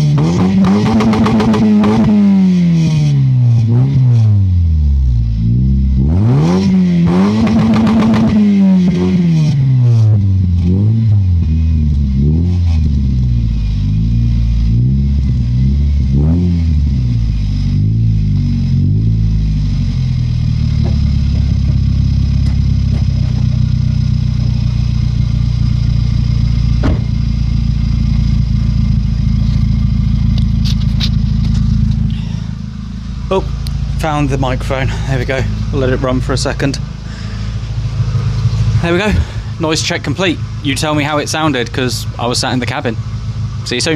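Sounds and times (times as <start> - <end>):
car engine revving and idling: 0.0 - 43.9.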